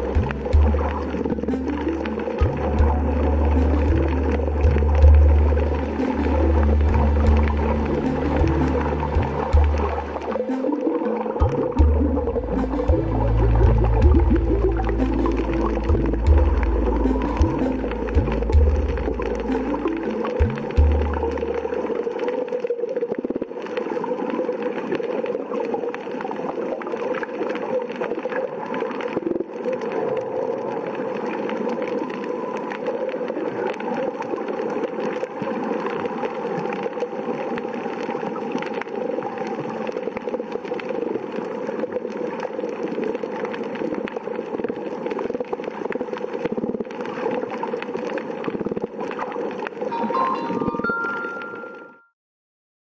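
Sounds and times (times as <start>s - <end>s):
underwater gurgling and bubbling: 0.0s - 51.9s.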